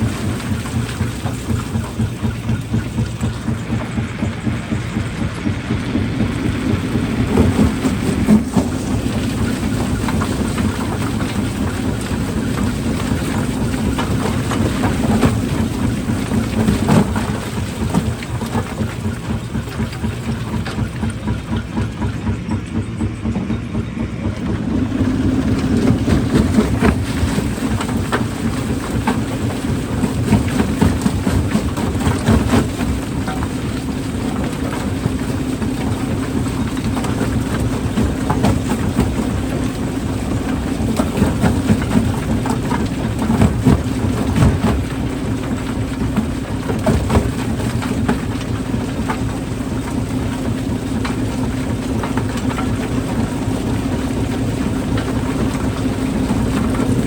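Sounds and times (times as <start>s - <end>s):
rock crusher droning: 0.0s - 57.0s.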